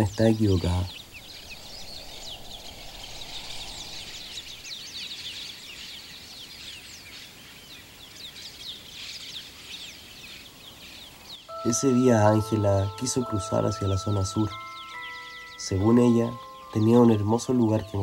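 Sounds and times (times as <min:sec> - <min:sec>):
faint outdoor background noise: 0:00.0 - 0:18.0
small birds chirping: 0:00.0 - 0:18.0.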